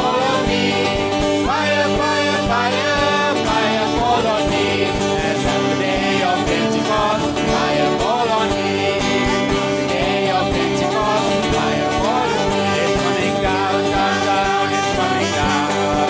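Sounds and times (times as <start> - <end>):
gospel band playing: 0.0 - 16.0
voices singing: 0.0 - 16.0.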